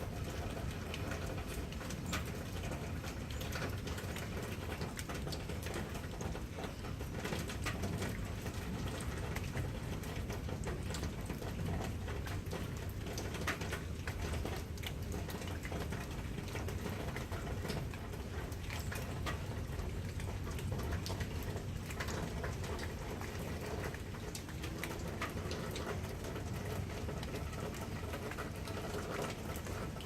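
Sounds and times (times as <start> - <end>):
raindrops ticking on surfaces: 0.0 - 30.0
steady rain hiss: 0.0 - 30.0.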